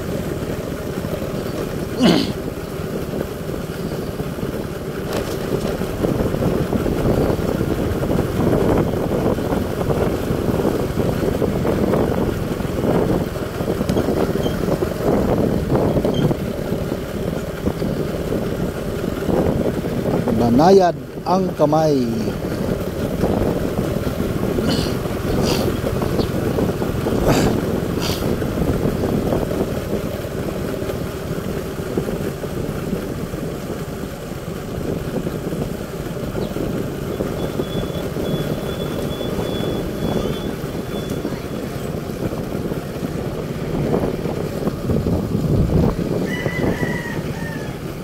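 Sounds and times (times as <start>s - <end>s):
vehicle engine rumble: 0.0s - 48.0s
wind buffeting microphone: 0.0s - 48.0s.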